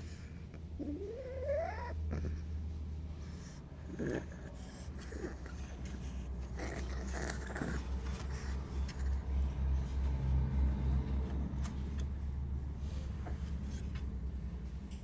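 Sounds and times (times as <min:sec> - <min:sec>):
puppy snorting breath: 0:00.0 - 0:12.0, 0:12.6 - 0:14.0
puppy snoring: 0:00.0 - 0:13.9.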